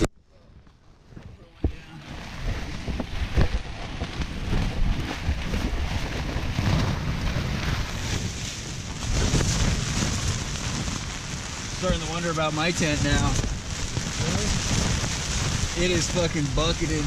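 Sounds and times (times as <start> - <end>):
wind and rain on a tent: 0.0 - 17.0.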